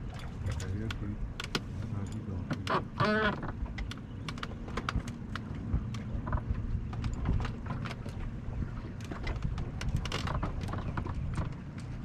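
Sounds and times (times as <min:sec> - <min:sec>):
low steady rumble: 0:00.0 - 0:12.0
waves lapping against metal boat hull: 0:00.0 - 0:12.0.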